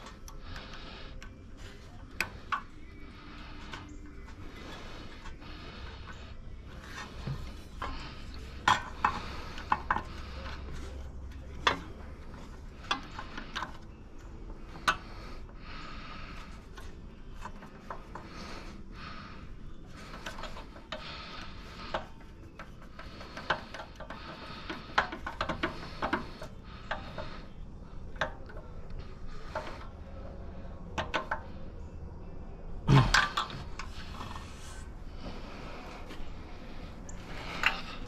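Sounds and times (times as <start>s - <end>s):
scraping and rubbing on metal: 0.0s - 31.7s, 32.9s - 38.0s.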